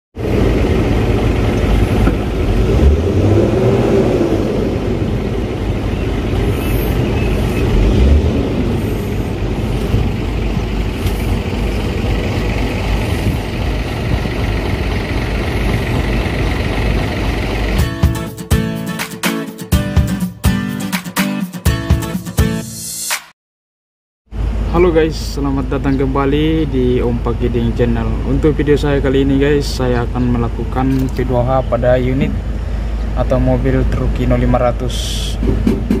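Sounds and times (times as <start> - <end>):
diesel truck engine rumbling: 0.2 - 19.0, 24.3 - 36.0.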